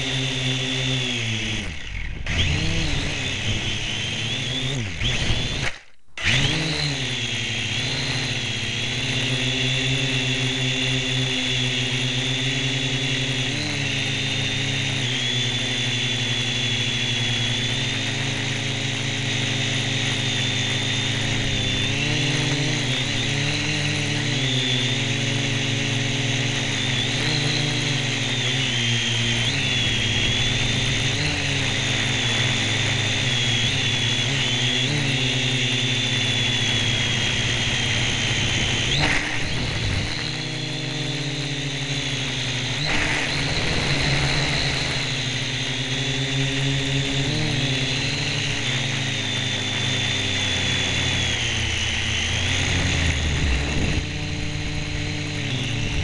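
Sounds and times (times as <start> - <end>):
drone motors and propellers whining: 0.0 - 56.0.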